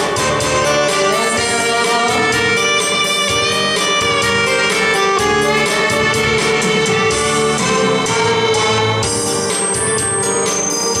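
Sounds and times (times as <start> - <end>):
instrumental song melody: 0.0 - 11.0.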